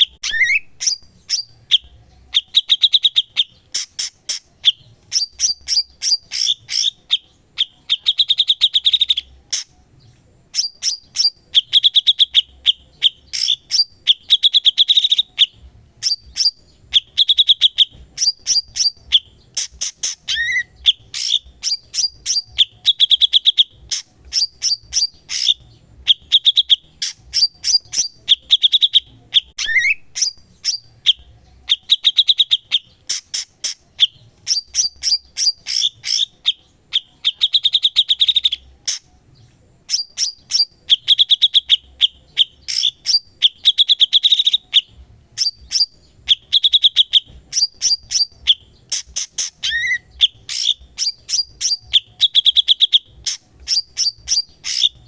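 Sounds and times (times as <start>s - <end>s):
songbird trilling: 0.0s - 9.8s, 10.5s - 39.1s, 39.8s - 55.0s.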